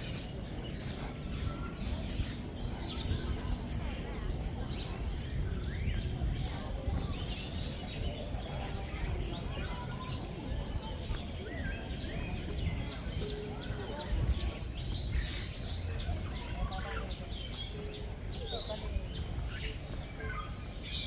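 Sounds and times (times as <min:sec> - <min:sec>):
birds chirping: 0:00.0 - 0:21.0
low rumble of people: 0:00.0 - 0:21.0.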